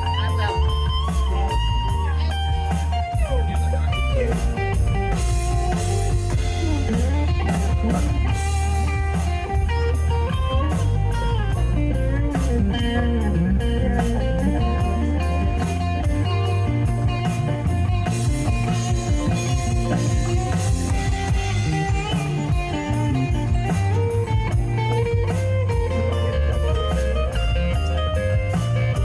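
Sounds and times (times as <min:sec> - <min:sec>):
bass: 0:00.0 - 0:29.0
drum kit beat: 0:00.0 - 0:29.0
electric guitar lead: 0:00.0 - 0:29.0.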